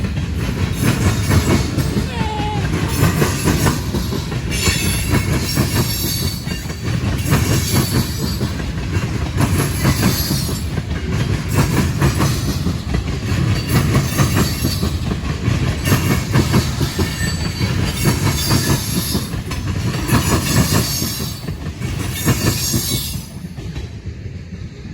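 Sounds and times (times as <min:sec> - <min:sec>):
freight train wheels clattering: 0:00.0 - 0:24.9.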